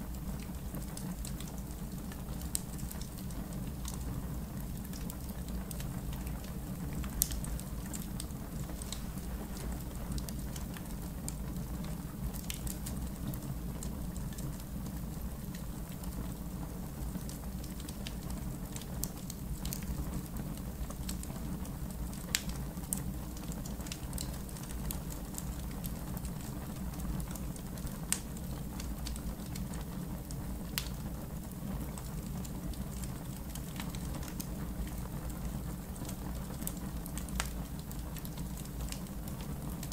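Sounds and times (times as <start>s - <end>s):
low rumble of burning fire: 0.0s - 39.9s
campfire crackling and popping: 0.1s - 39.9s.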